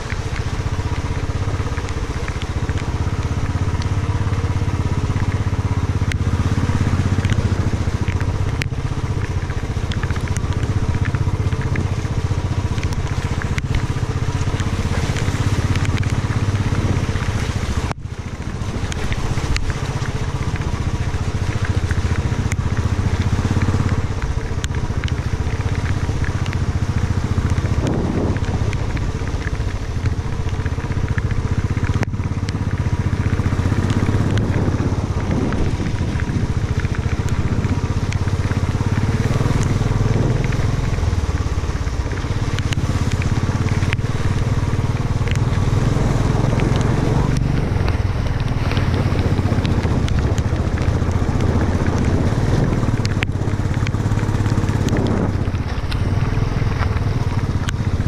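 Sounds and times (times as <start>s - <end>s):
gravel clicking under tyres: 0.0s - 58.0s
motorcycle engine running: 0.0s - 58.0s.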